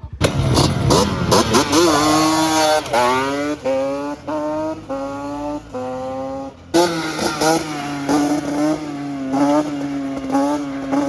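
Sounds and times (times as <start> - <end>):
atv engine accelerating: 0.0 - 11.0
louder engine revving in blips: 0.0 - 11.0.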